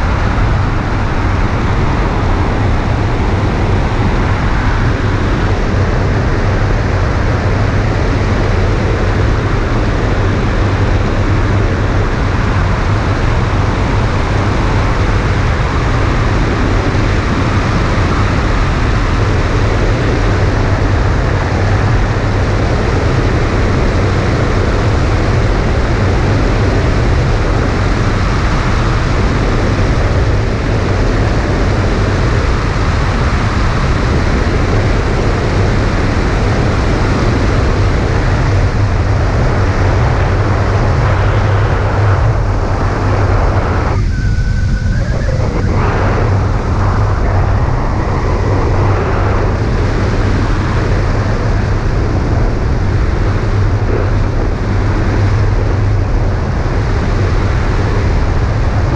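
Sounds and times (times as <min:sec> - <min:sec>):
wind buffeting a camera: 0:00.0 - 0:58.9.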